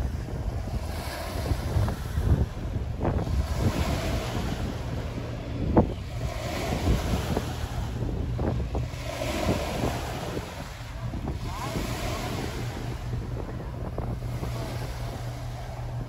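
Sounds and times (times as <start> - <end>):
choppy water: 0.0 - 16.0
wind buffeting microphone: 0.0 - 16.0.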